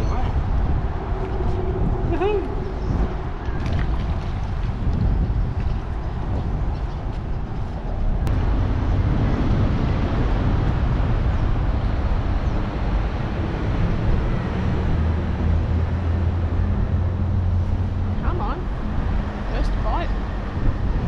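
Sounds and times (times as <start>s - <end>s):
engine hum: 0.0s - 21.0s
low engine rumble: 0.0s - 21.0s.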